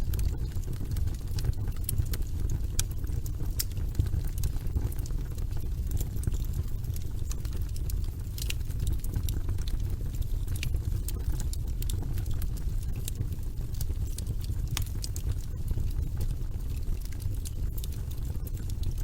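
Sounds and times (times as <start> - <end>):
wood logs burning in fireplace: 0.0 - 19.0.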